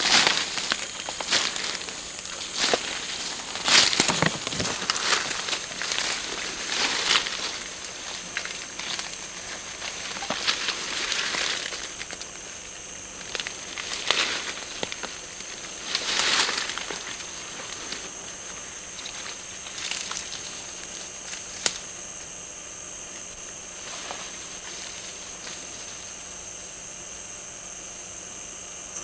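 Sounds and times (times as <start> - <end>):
rustling of leaves and undergrowth: 0.0 - 29.0
steady high hiss: 0.0 - 29.0.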